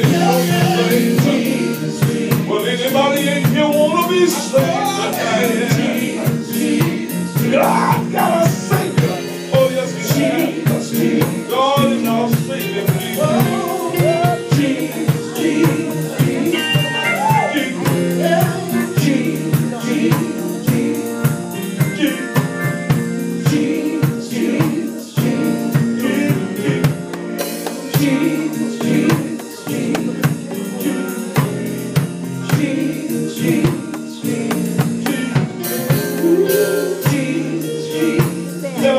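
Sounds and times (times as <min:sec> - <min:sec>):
live band with drum kit: 0:00.0 - 0:38.9
person singing gospel: 0:00.0 - 0:38.9.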